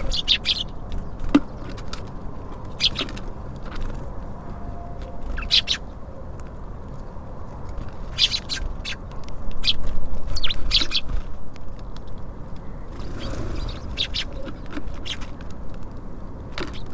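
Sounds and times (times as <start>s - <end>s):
small songbirds chirping: 0.0s - 4.2s, 5.0s - 11.3s, 12.0s - 16.9s.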